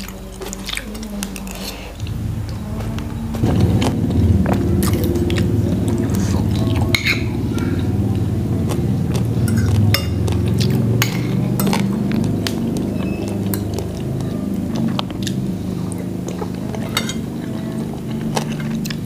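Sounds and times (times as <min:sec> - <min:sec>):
close chewing: 0:00.0 - 0:19.0.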